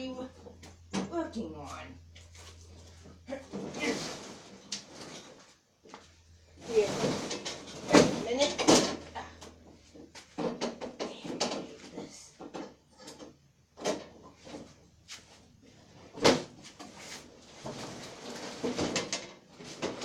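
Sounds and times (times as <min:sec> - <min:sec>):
equipment knocks and scrapes: 0:00.4 - 0:20.0.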